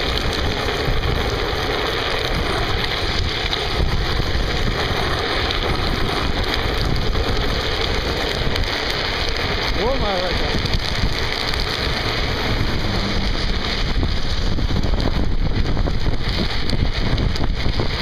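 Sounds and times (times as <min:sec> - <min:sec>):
wheels rolling on asphalt: 0:00.0 - 0:18.0
wind buffeting microphone: 0:00.0 - 0:18.0.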